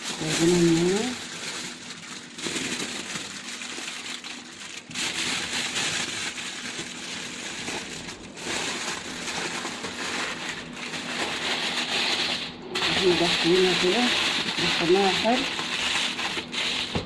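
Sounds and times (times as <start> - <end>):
cellophane crinkling: 0.0 - 17.0.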